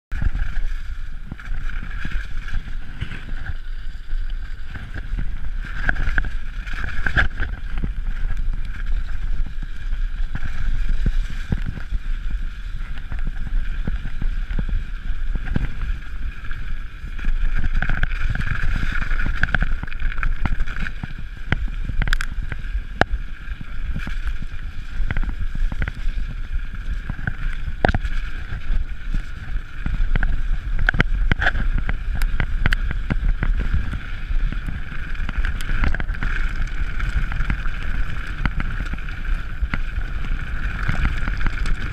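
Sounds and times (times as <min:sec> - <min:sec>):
tyres rumbling on gravel: 0:00.1 - 0:41.9
wind buffeting microphone: 0:00.1 - 0:41.9.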